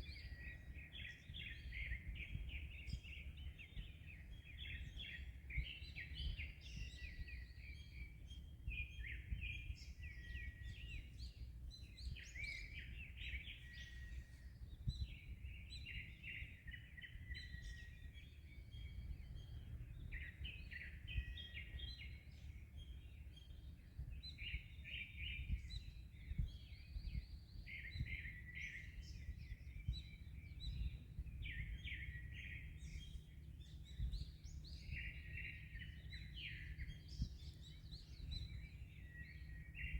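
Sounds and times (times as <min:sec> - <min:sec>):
birds chirping and trilling: 0:00.0 - 0:39.9
wind: 0:00.0 - 0:39.9.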